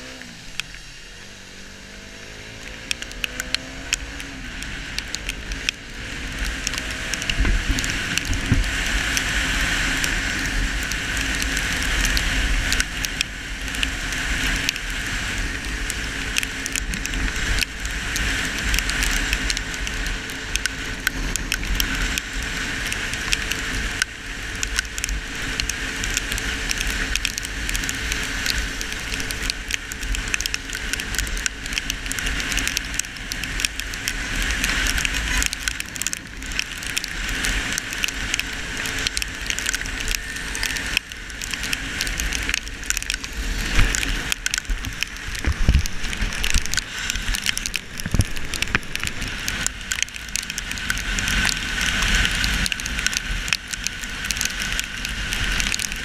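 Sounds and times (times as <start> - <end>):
rain hitting camera housing: 0.0 - 56.0
wind rumble: 0.0 - 56.0.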